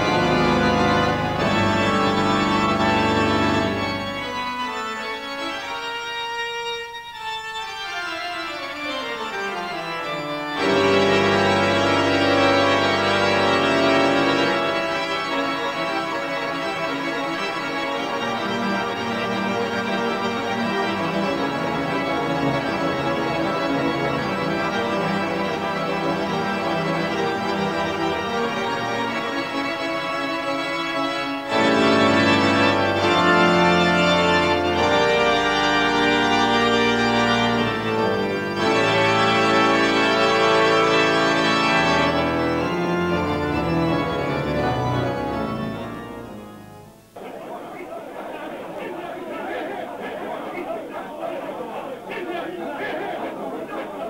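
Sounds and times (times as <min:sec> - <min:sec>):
organ playing chords: 0:00.0 - 0:49.8.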